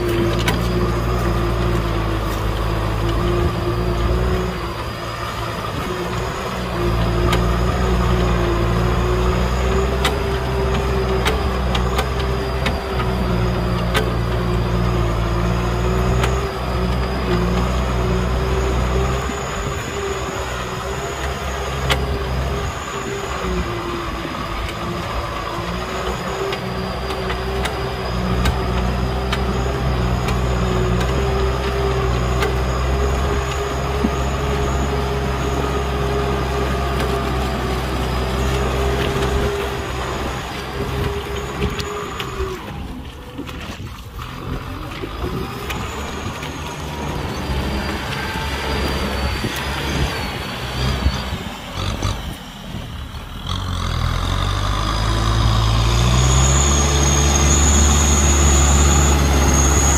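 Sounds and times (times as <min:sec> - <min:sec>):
tractor diesel engine: 0:00.0 - 0:59.9.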